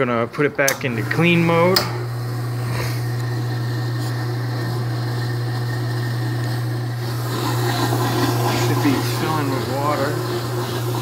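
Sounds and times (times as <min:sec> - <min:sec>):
ice machine humming: 0:00.0 - 0:11.0.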